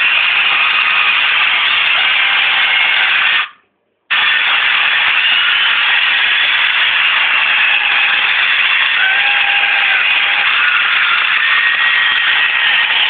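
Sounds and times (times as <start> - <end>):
loud hiss-like noise: 0.0 - 13.0.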